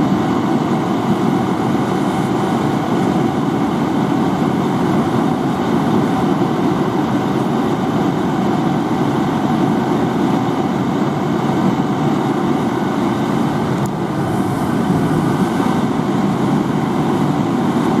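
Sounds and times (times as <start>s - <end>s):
fire engine rumbling: 0.0s - 18.0s.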